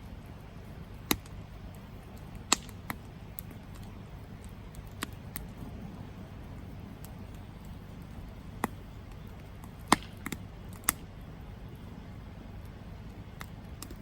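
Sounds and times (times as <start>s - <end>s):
campfire rumbling: 0.0s - 14.0s
wood popping and crackling: 0.0s - 14.0s.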